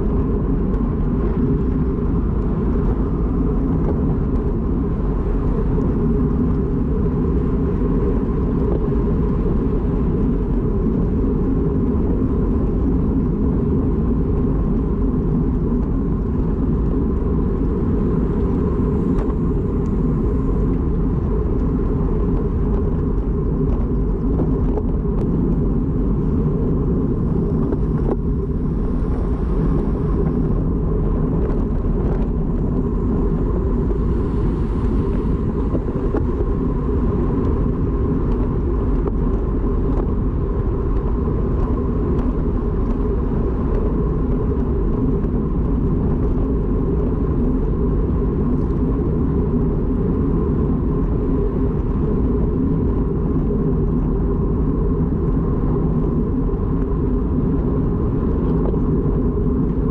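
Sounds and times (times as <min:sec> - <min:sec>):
wind and road noise rumble: 0:00.0 - 0:59.9.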